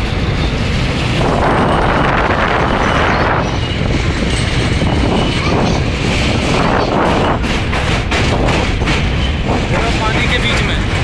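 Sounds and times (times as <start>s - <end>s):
train rumbling over bridge: 0.0s - 11.0s.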